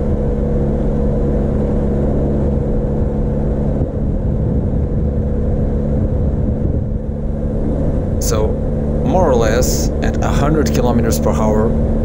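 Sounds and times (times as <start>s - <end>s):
motorcycle engine cruising: 0.0s - 12.0s
road noise: 0.0s - 12.0s
wind rush: 0.0s - 12.0s.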